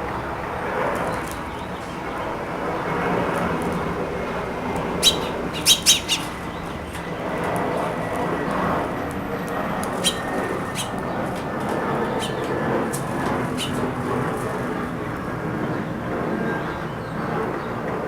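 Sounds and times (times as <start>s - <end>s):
steady background noise: 0.0s - 18.0s
birds chirping: 1.0s - 17.8s.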